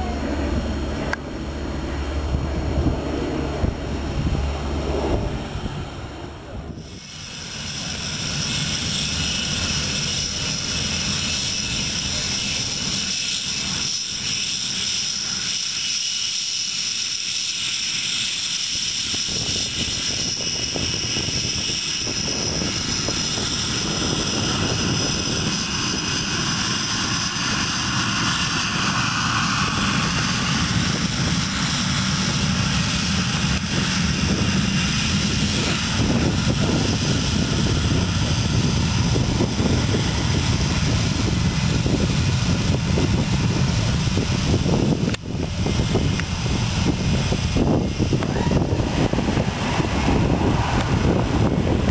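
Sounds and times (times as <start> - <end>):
aircraft engines running: 0.0 - 51.9.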